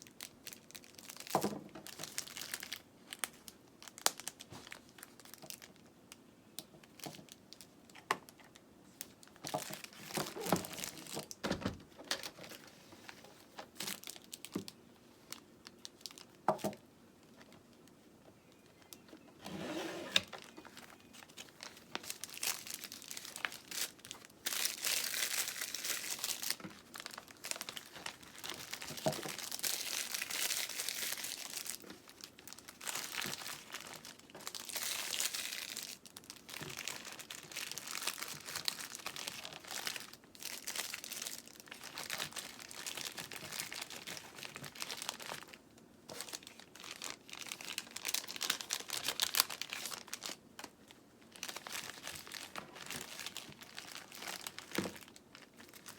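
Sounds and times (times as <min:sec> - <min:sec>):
plastic bags crinkling: 0:00.0 - 0:05.9, 0:06.6 - 0:19.5, 0:20.2 - 0:55.9.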